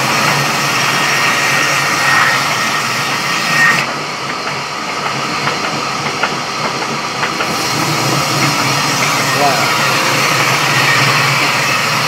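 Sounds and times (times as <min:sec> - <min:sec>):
sawmill saw running: 0:00.0 - 0:12.0.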